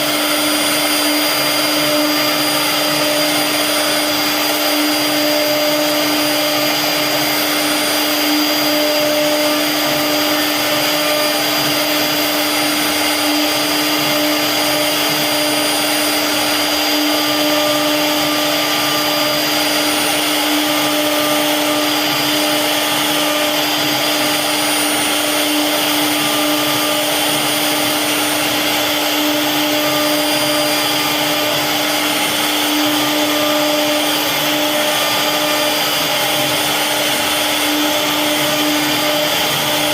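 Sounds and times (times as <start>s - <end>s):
wood router spindle whining: 0.0s - 39.9s.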